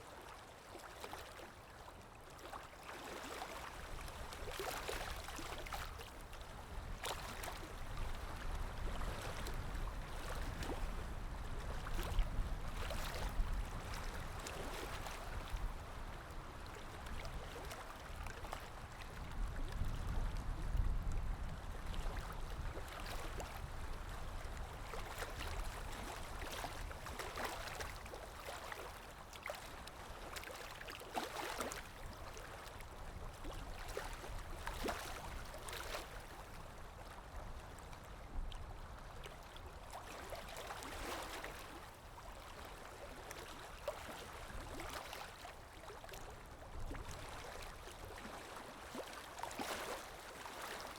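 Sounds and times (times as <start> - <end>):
river water rippling and lapping: 0.0 - 50.9
small water splashes: 0.0 - 50.9.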